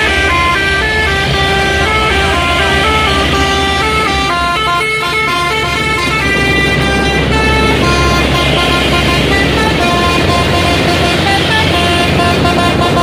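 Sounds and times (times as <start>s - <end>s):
horn-like melody: 0.0s - 13.0s
steady low rumble: 0.0s - 13.0s.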